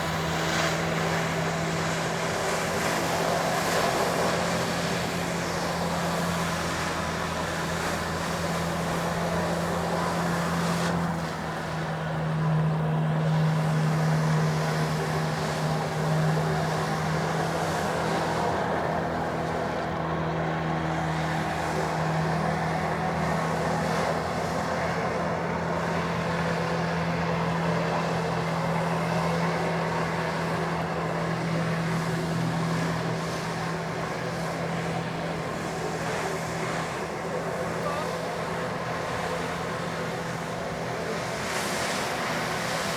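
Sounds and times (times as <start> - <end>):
low engine drone: 0.0 - 42.9.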